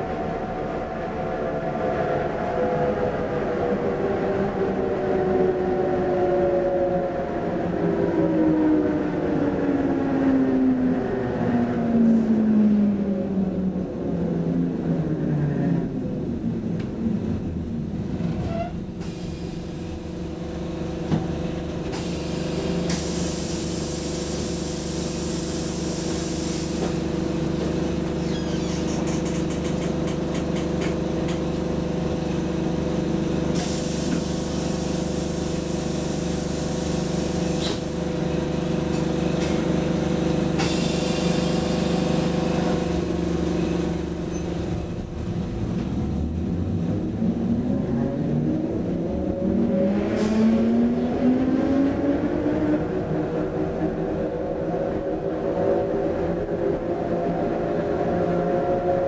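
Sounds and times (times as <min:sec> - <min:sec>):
tram electrical hum: 0:00.0 - 0:59.0
tram motor whine rising: 0:00.0 - 0:59.0.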